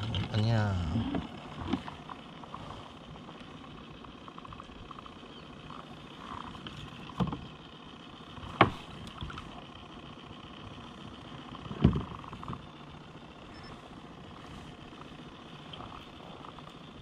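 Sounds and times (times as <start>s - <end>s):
water and air noise: 0.0s - 17.0s.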